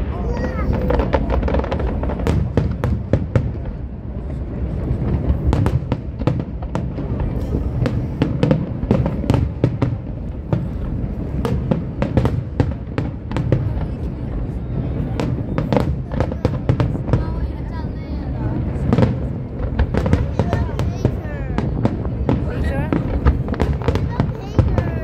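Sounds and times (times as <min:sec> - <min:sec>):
fireworks bangs and crackles: 0:00.0 - 0:25.0
low booming: 0:00.0 - 0:25.0.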